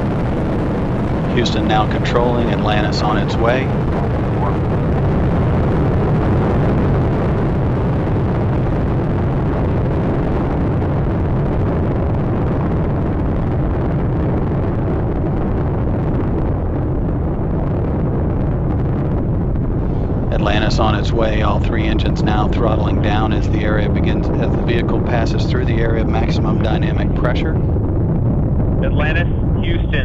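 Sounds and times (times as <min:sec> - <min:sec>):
rocket engines rumbling: 0:00.0 - 0:30.0.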